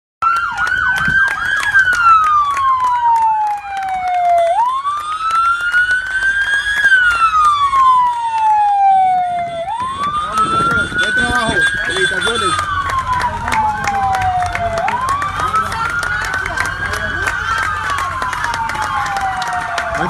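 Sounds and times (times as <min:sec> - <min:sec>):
siren wailing: 0:00.2 - 0:20.0
siren yelping: 0:00.2 - 0:20.0.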